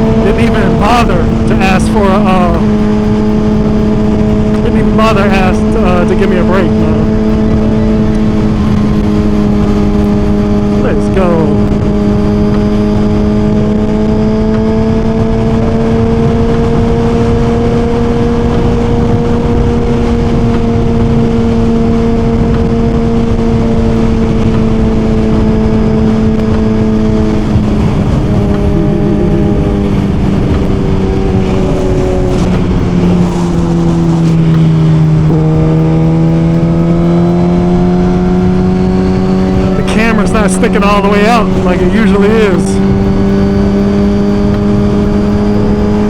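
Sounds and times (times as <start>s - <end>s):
motorcycle engine cruising: 0.0s - 46.0s
wind rush: 0.0s - 46.0s.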